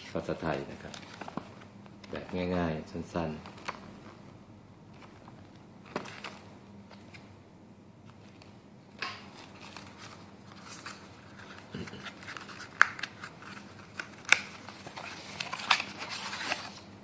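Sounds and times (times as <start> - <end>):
paper and card rustling: 0.1 - 4.2, 4.9 - 7.2, 9.1 - 16.9.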